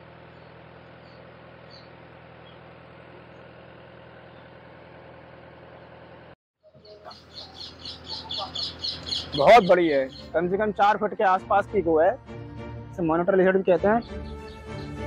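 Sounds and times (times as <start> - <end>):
truck engine idling: 0.0 - 12.6.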